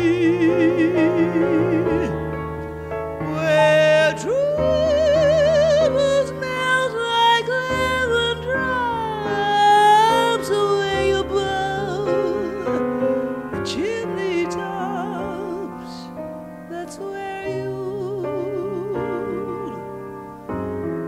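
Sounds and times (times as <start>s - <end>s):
slow vibrato melody: 0.0s - 21.0s
sustained piano chords: 0.0s - 21.0s.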